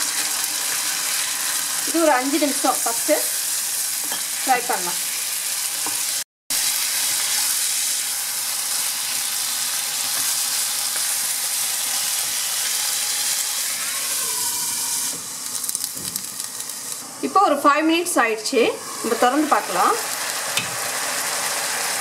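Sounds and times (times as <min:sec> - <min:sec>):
chicken sizzling in hot oil: 0:00.0 - 0:17.5, 0:18.2 - 0:22.0.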